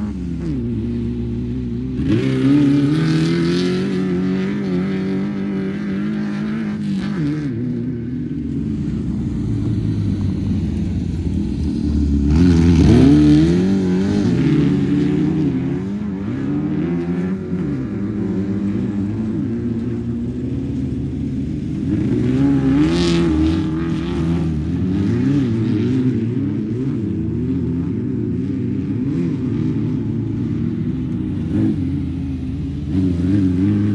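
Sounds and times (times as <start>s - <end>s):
race car engines revving: 0.0s - 33.9s.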